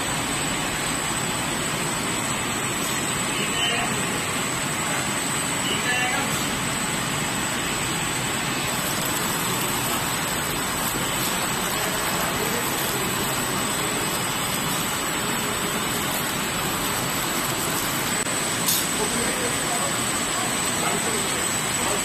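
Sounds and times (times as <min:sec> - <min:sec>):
dense mechanical machine noise: 0:00.0 - 0:22.0.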